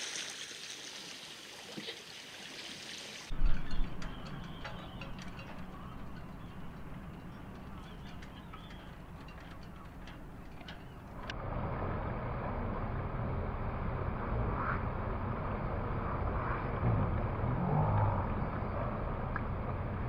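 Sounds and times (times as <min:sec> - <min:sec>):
wind: 0:00.0 - 0:20.0
low rumbling noise: 0:03.3 - 0:20.0.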